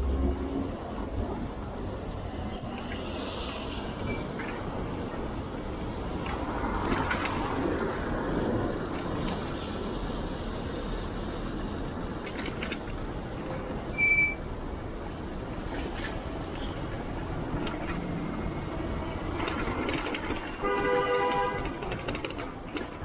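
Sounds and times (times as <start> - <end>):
passing vehicles rumble: 0.0 - 23.0.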